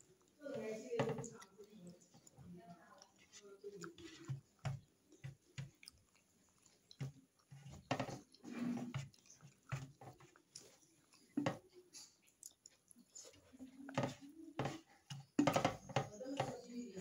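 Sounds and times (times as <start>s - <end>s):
wet chewing: 0.0s - 17.0s.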